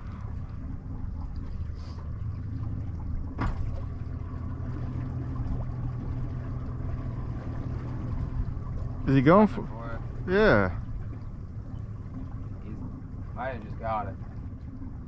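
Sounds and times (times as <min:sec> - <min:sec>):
boat low rumble: 0:00.0 - 0:15.0
water trickling around hull: 0:00.0 - 0:15.0.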